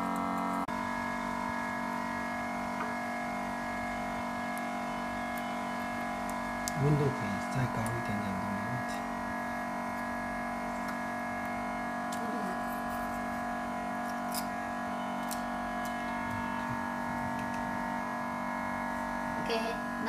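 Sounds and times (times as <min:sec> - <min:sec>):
machine electric hum: 0:00.0 - 0:20.0.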